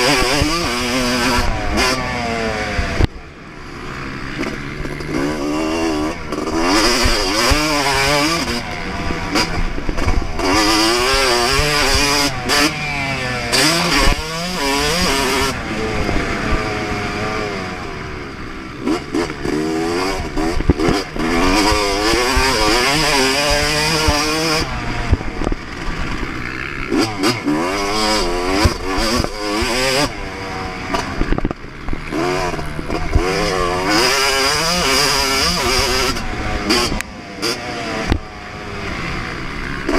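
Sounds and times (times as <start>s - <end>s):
two-stroke dirt bike engine: 0.0s - 39.9s.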